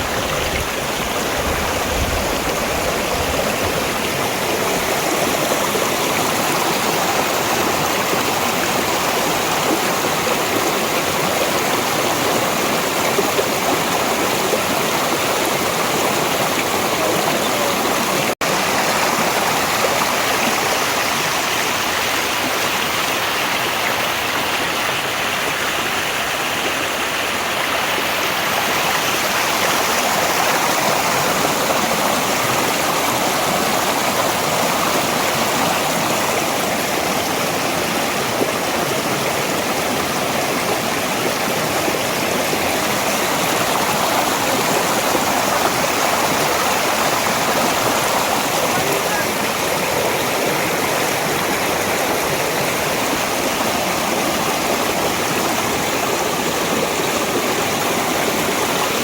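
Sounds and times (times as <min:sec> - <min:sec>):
stream of running water: 0:00.0 - 0:59.0.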